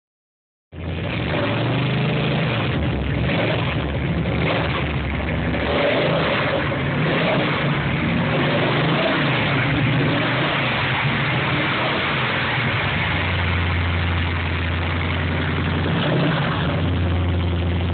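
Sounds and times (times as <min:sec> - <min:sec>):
car engine idling: 0:00.8 - 0:17.9.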